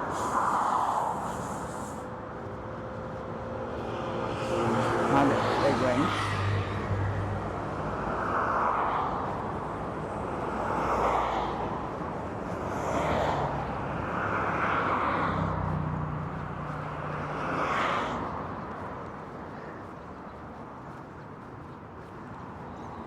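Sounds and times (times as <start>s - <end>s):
low engine hum: 0.0s - 23.0s
vehicles passing: 0.0s - 23.0s.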